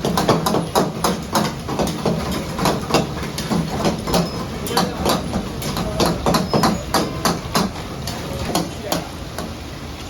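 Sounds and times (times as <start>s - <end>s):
metallic knocks and clatter: 0.0s - 9.6s.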